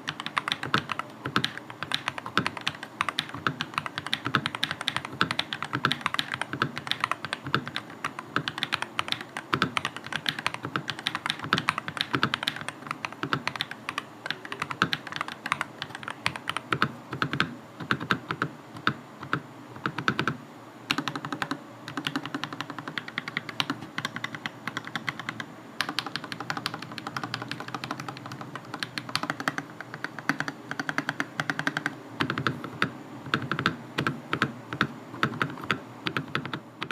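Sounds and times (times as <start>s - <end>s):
mechanical keyboard typing: 0.0s - 36.9s.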